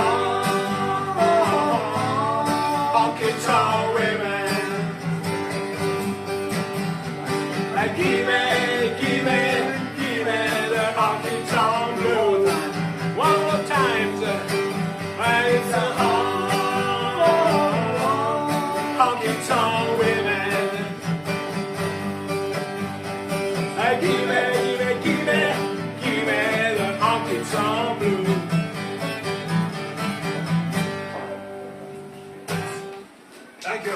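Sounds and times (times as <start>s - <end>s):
country band playing: 0.0s - 32.9s
strummed acoustic guitar: 0.0s - 33.3s.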